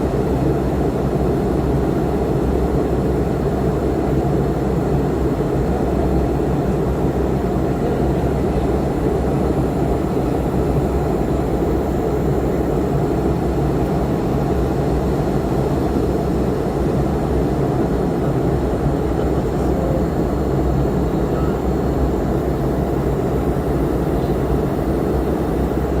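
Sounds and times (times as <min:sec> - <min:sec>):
aircraft cabin rumble: 0:01.8 - 0:26.0.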